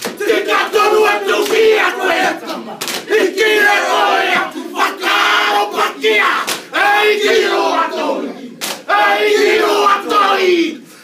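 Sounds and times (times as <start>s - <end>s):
men shouting a chant in unison: 0.0s - 10.9s.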